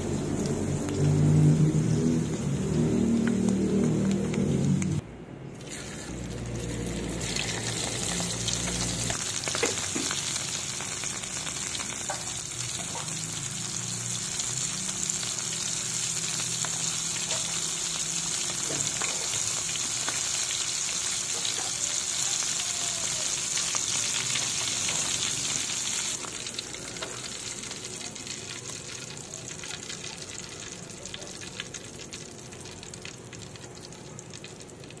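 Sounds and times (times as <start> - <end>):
fish sizzling in hot oil: 0.0 - 5.0, 5.6 - 35.0.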